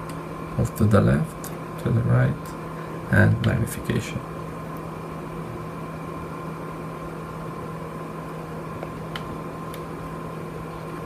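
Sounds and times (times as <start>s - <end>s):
oscilloscope fan hum: 0.0s - 11.0s.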